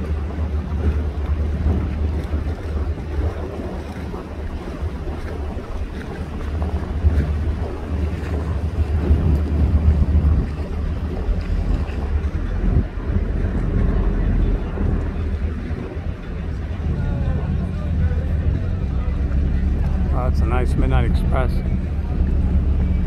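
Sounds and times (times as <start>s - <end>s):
boat engine rumbling: 0.0s - 23.0s
wind buffeting microphone: 0.0s - 23.0s.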